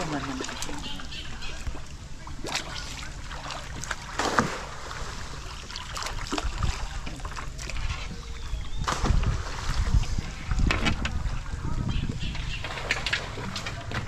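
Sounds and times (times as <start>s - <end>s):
fish splashing in water: 0.0s - 11.3s
wind rumble on microphone: 0.0s - 14.0s.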